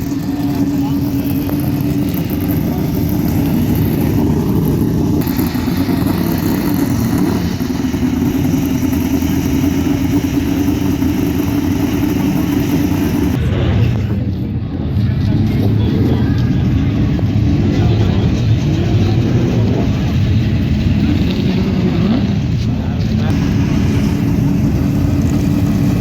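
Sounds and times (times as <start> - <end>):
car engines low drone: 0.0 - 26.0.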